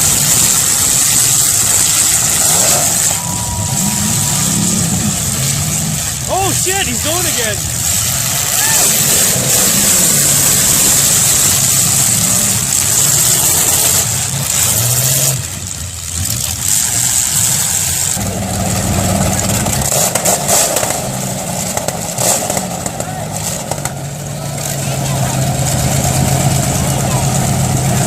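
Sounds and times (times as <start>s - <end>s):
car engines revving: 0.0s - 28.0s
sharp cracks: 0.0s - 28.0s.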